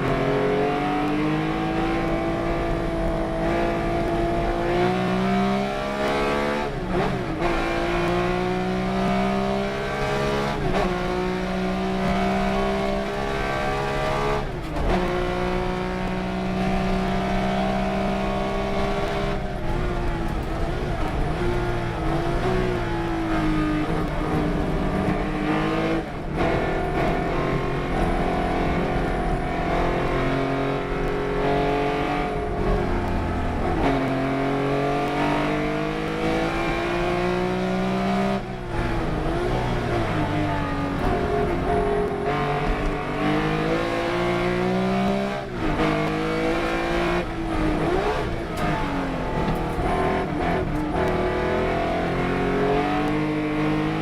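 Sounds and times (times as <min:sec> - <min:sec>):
racing car engine at full throttle: 0:00.0 - 0:54.0.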